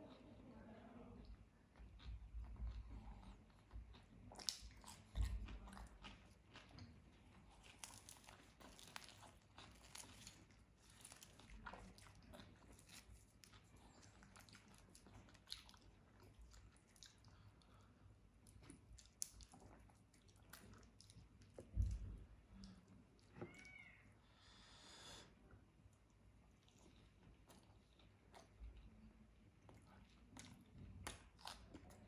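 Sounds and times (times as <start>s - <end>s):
mouth clicks and chewing: 1.8s - 23.3s, 25.9s - 32.0s.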